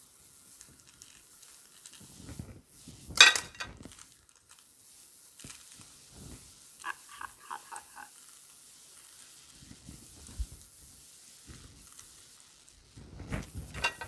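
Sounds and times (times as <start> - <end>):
powder pouring into pot: 0.0 - 14.0
seasoning packet rustling: 0.0 - 14.0.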